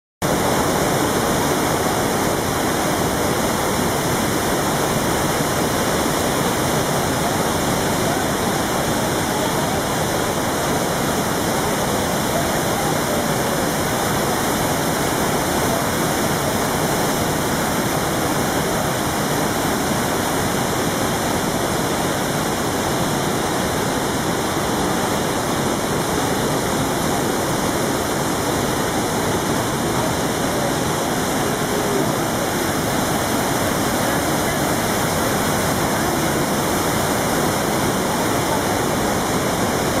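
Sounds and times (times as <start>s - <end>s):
waterfall rushing: 0.2s - 40.0s.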